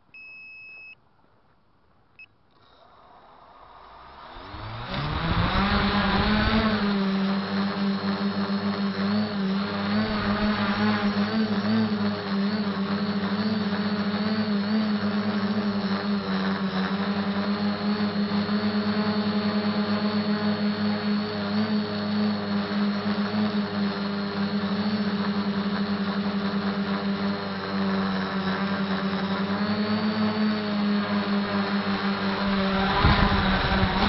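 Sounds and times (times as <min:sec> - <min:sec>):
quadcopter motors buzzing whine: 0:02.3 - 0:34.0.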